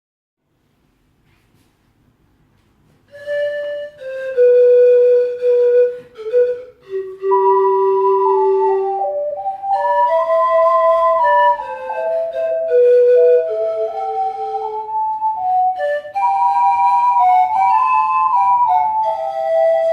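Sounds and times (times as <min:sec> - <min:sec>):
ocarina melody: 0:03.1 - 0:19.9
pan flute melody: 0:03.1 - 0:19.9.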